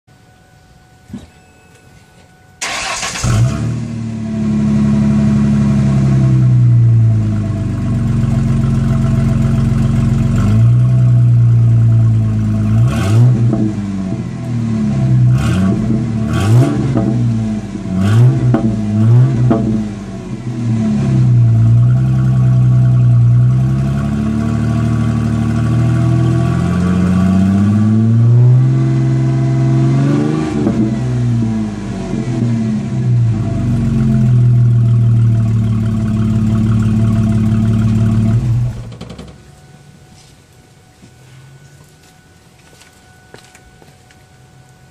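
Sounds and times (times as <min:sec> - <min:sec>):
car engine starting and revving: 0:02.6 - 0:39.1.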